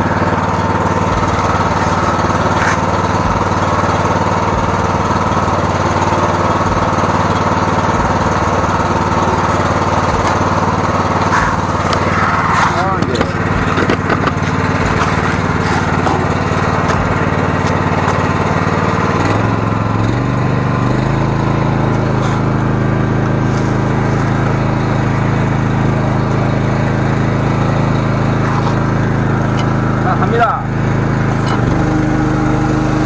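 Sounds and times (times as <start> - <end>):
sewer jetter engine running: 0.0 - 33.0.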